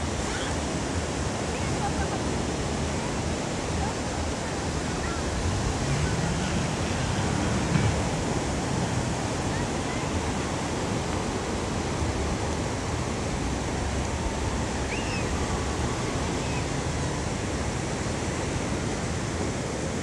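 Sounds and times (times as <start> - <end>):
surf washing onto a beach: 0.0 - 20.0.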